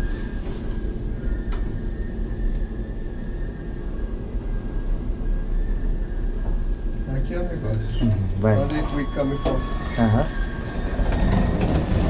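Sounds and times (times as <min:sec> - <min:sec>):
high whine: 0:00.0 - 0:12.0.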